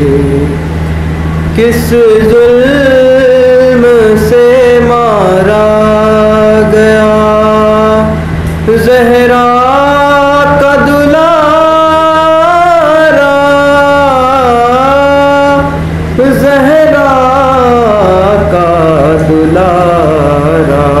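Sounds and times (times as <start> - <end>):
steady low hum: 0.0 - 21.0
man chanting a lament: 1.6 - 21.0.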